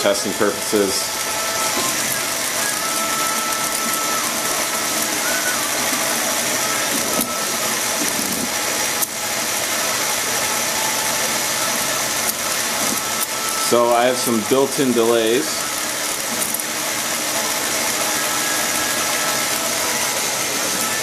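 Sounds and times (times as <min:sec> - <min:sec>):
bike chain and wheel whirring: 0:00.0 - 0:21.0.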